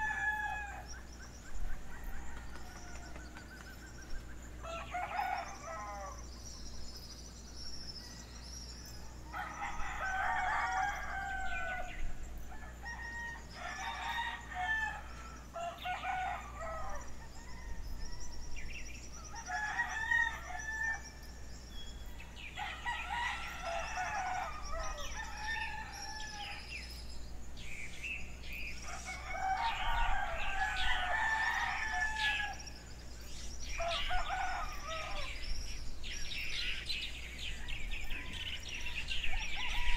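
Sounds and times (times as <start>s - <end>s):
roosters crowing: 0.0s - 27.6s, 28.3s - 39.9s
small birds chirping: 0.0s - 39.9s.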